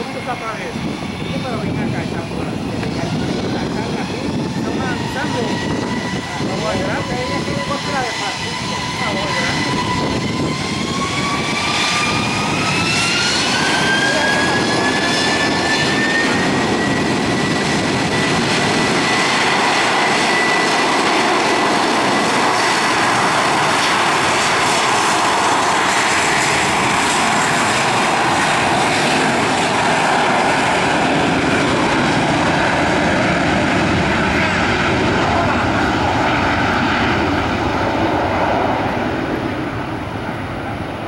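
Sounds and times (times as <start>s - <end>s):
jet engines spooling up: 0.0s - 41.0s
loud steady jet noise: 0.0s - 41.0s.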